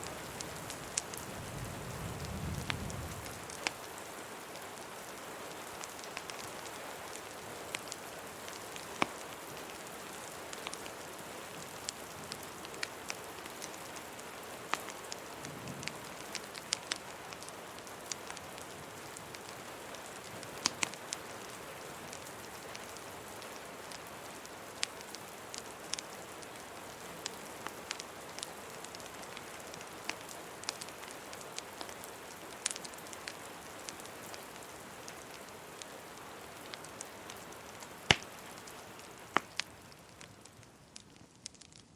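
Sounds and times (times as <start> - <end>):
steady rain falling: 0.0 - 41.9
wood fire crackling: 0.0 - 41.9.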